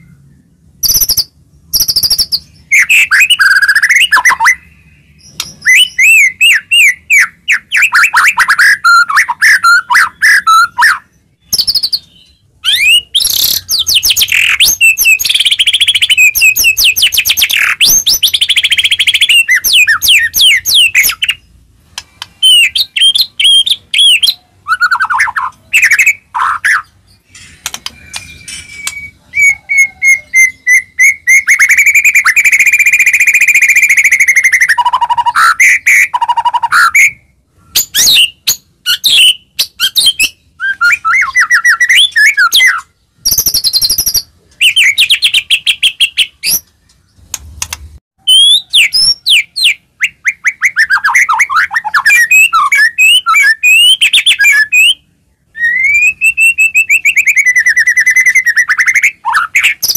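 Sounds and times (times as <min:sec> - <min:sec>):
songbird singing whistles and trills: 0:00.0 - 0:47.3, 0:48.2 - 0:59.9.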